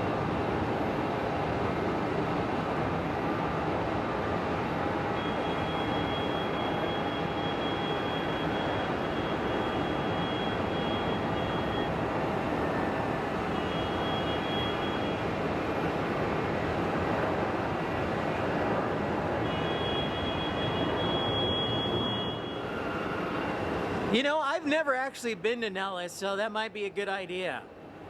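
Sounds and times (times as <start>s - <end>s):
jet airliner engines running: 0.0s - 25.4s
faint high whine: 5.1s - 27.7s.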